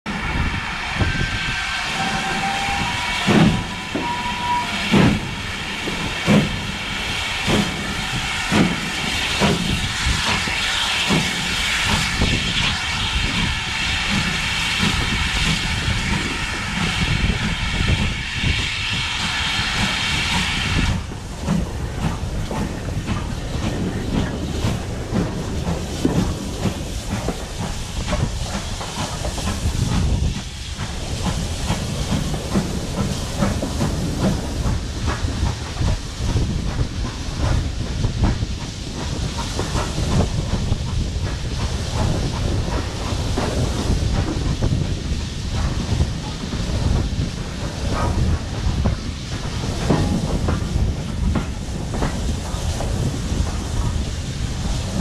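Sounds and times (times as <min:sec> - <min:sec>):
loud steam hiss: 0:00.1 - 0:55.0
steam locomotive exhaust chuffs: 0:00.1 - 0:55.0
wheels rumbling and clicking on track: 0:00.1 - 0:55.0.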